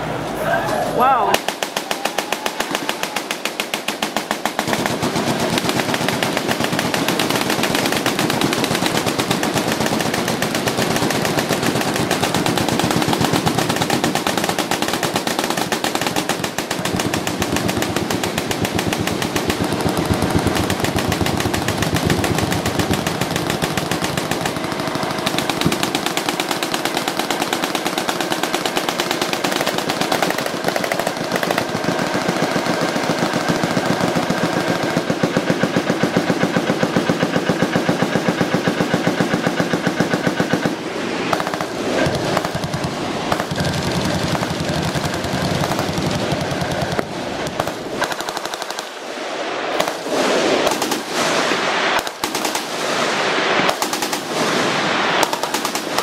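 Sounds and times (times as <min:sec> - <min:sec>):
automatic machine-gun fire: 0:01.2 - 0:56.0.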